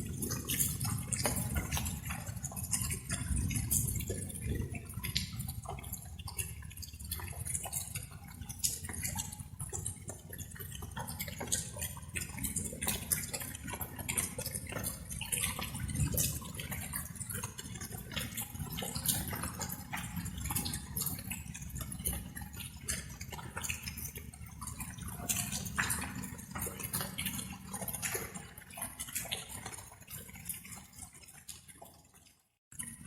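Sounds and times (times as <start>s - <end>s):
raindrops pattering and dripping: 0.0s - 33.0s.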